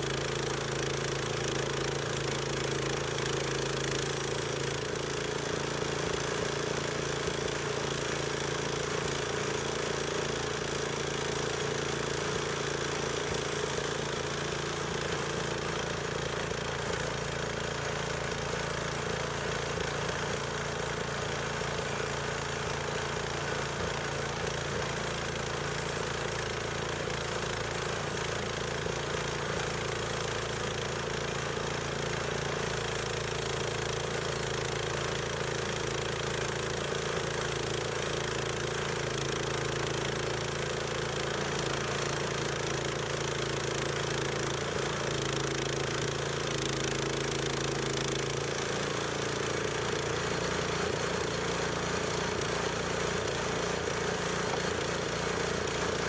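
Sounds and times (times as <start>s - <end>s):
sawmill gasoline engine running: 0.0s - 56.0s.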